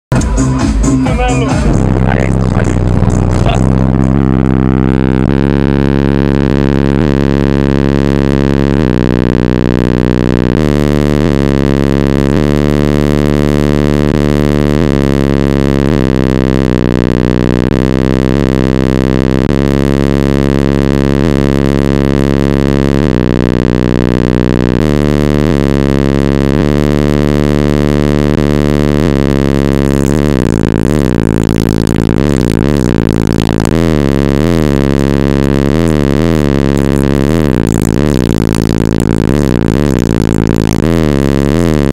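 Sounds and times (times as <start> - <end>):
deep subwoofer bass notes: 0.0 - 41.9.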